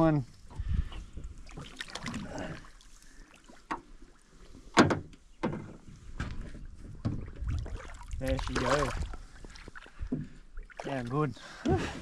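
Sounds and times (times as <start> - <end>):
water splashing beside a boat: 0.0 - 12.0.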